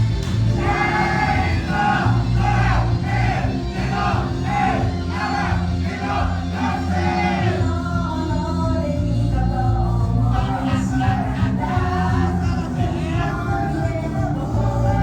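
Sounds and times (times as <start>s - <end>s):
live rock music with heavy bass: 0.0s - 15.0s
voices singing: 0.0s - 15.0s.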